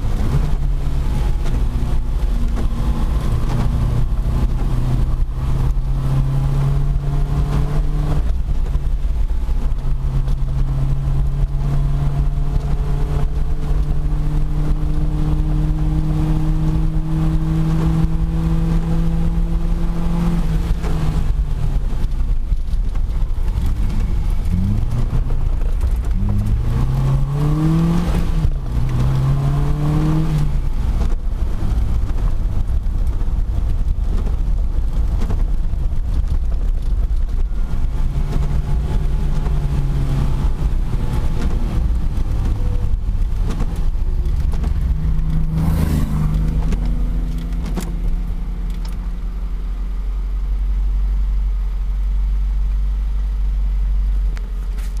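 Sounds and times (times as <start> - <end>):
car engine revving through gears: 0.0 - 49.9.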